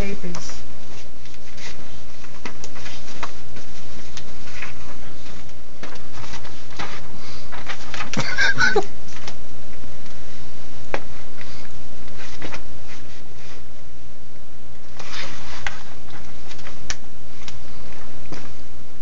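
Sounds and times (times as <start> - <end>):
newspaper pages rustling: 0.0 - 10.3, 10.9 - 13.8, 14.8 - 18.6
steady low hum: 0.0 - 19.0.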